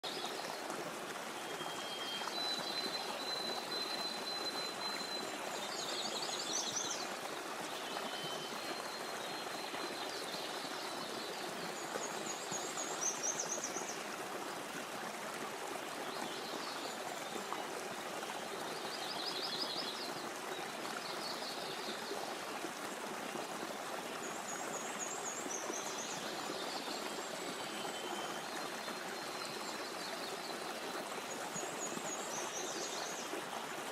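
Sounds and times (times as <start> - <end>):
stream running over stones: 0.0 - 33.9.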